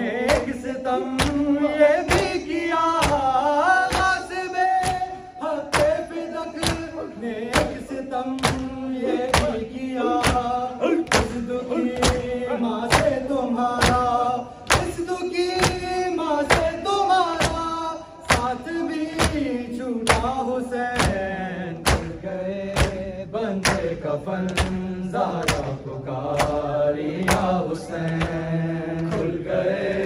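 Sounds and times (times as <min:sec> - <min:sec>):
men chanting a lament: 0:00.0 - 0:30.0
hands beating bare chests: 0:00.2 - 0:20.4, 0:21.0 - 0:22.2, 0:22.8 - 0:29.3.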